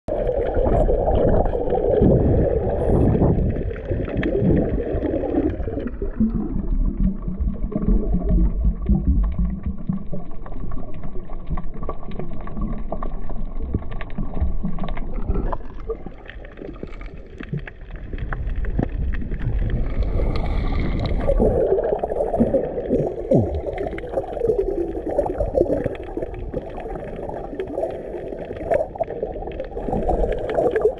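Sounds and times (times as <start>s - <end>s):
underwater gurgling water: 0.1s - 30.9s.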